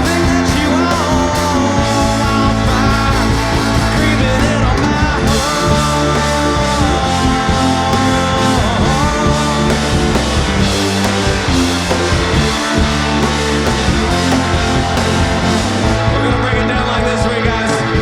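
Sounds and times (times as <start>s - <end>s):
bass guitar: 0.0s - 18.0s
drums: 0.0s - 18.0s
guitar lines: 0.0s - 18.0s.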